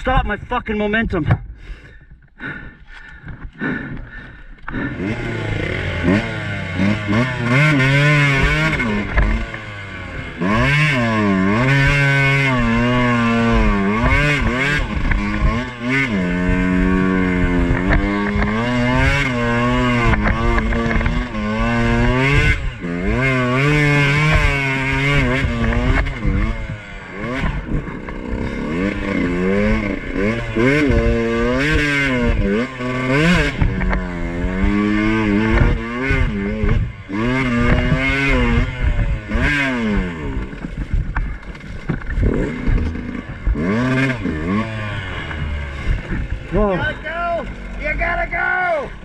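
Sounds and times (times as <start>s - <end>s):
two-stroke dirt bike engine revving: 3.0s - 49.0s.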